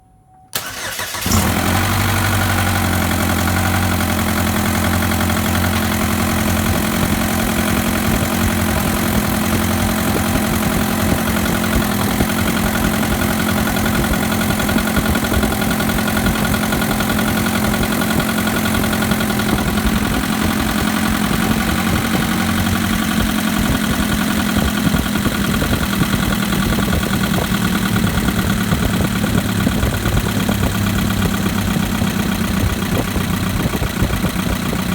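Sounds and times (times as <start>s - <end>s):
car engine idling: 0.6s - 34.9s
engine ticking: 0.6s - 34.9s.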